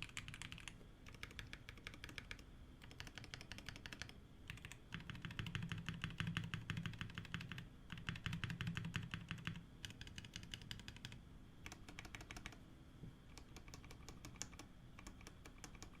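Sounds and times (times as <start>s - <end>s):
mechanical keyboard typing: 0.0s - 12.6s, 13.3s - 16.0s.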